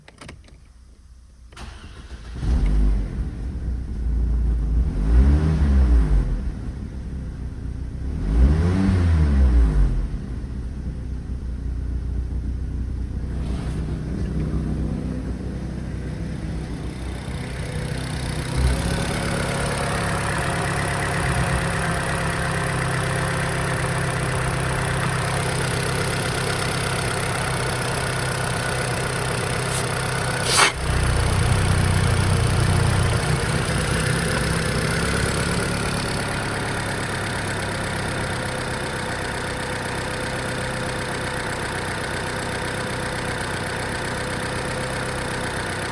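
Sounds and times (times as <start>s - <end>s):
car engine idling: 0.8s - 5.1s, 6.3s - 8.1s, 10.0s - 45.9s.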